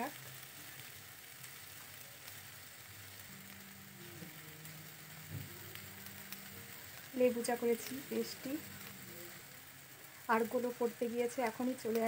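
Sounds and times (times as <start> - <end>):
faint sizzling in a pan: 0.0 - 12.0.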